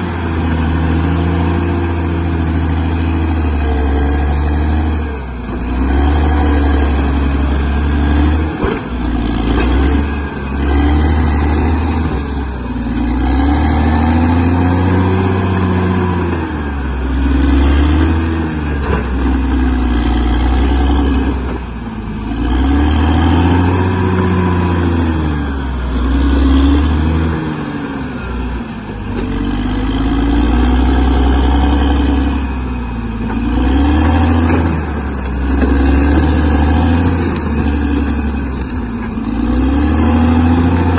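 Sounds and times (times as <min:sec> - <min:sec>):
bulldozer diesel engine revving: 0:00.0 - 0:40.9.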